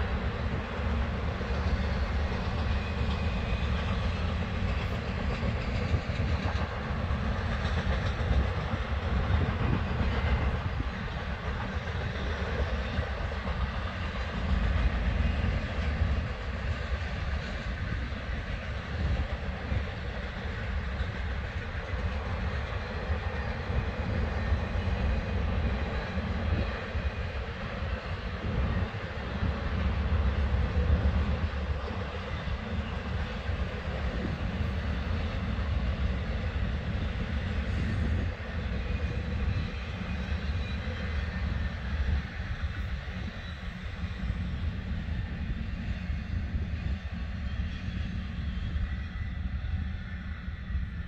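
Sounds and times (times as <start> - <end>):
wheels clickety-clack: 0.0 - 48.4
freight train rumbling past: 0.0 - 51.0.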